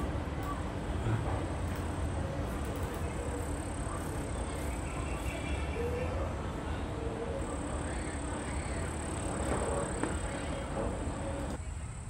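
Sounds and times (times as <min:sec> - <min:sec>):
faint distant voices: 0:00.0 - 0:12.0.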